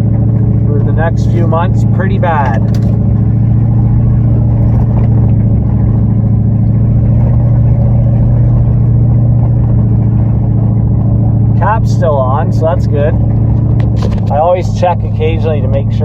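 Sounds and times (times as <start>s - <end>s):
truck engine droning under load: 0.0s - 16.0s.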